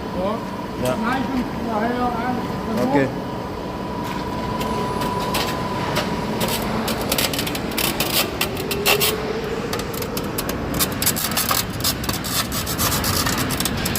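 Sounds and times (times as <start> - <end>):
machinery rumble: 0.0 - 13.9.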